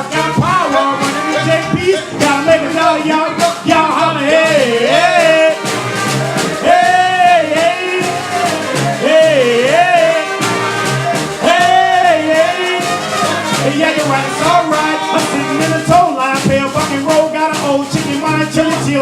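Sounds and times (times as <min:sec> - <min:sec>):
brass band playing: 0:00.0 - 0:19.0
horn phrase bending in pitch: 0:00.0 - 0:19.0.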